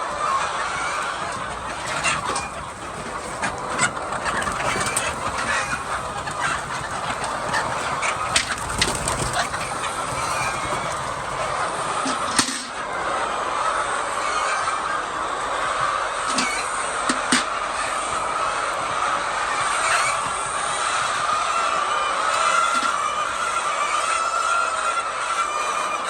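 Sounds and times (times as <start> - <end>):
flock of chickens clucking: 0.0 - 26.0.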